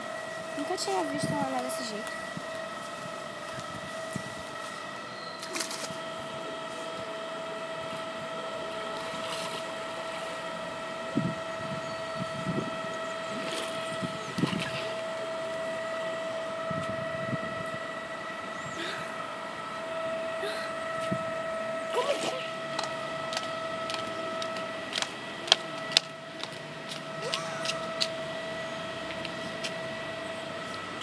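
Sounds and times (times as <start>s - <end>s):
steady hum of held tones: 0.0s - 31.0s.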